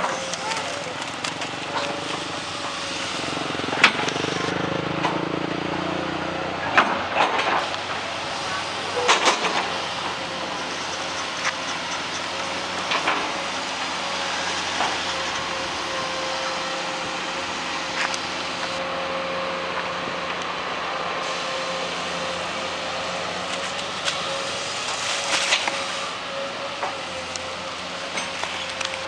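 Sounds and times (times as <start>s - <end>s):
backhoe engine running: 0.0s - 29.0s.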